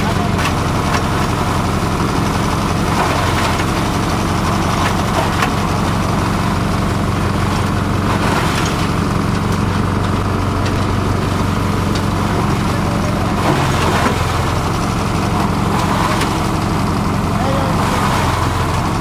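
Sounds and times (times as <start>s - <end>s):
shredder motor running: 0.0s - 19.0s.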